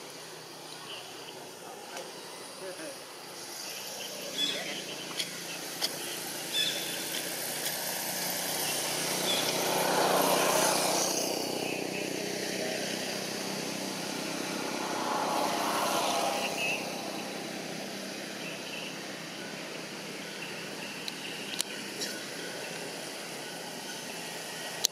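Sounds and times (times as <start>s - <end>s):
steady background hiss: 0.0s - 24.9s
vehicles passing: 0.0s - 24.9s.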